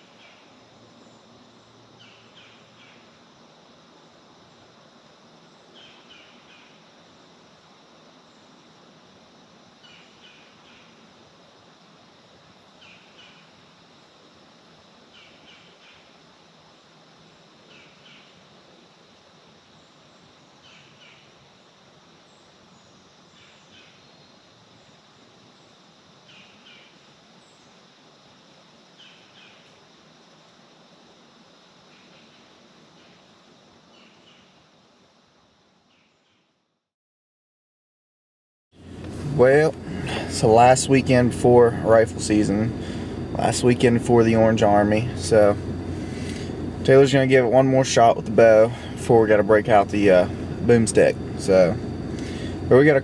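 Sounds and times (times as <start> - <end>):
steady low hiss: 0.0 - 36.9, 38.8 - 53.0.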